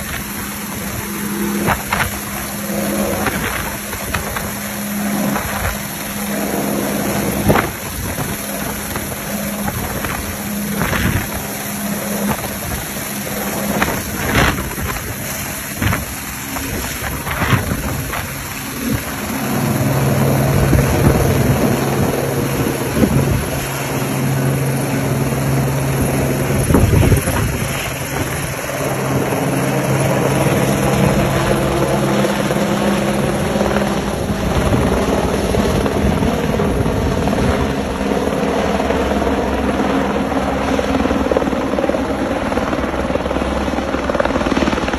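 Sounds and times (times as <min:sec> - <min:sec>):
helicopter rotor and engine drone: 0:00.0 - 0:44.9.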